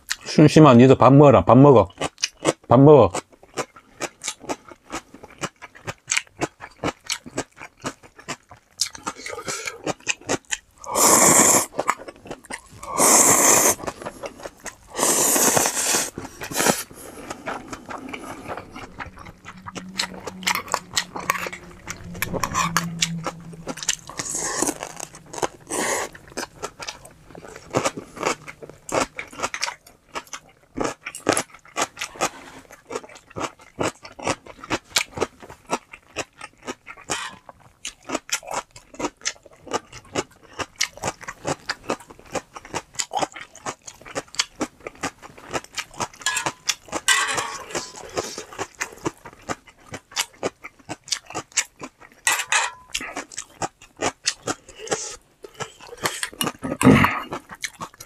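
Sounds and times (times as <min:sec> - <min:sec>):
crunching and chewing food: 0:00.0 - 0:00.4, 0:01.8 - 0:58.0.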